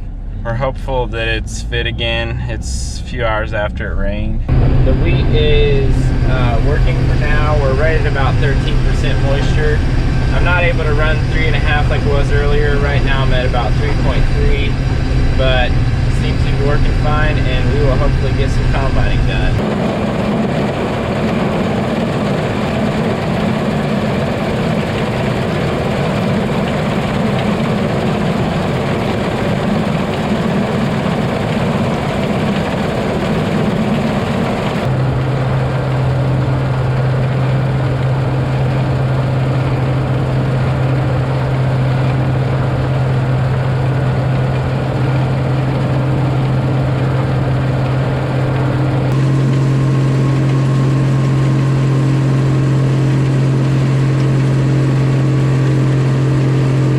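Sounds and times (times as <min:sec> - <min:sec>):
combine harvester drone: 0:00.0 - 0:56.9
steady low hum: 0:00.0 - 0:56.9.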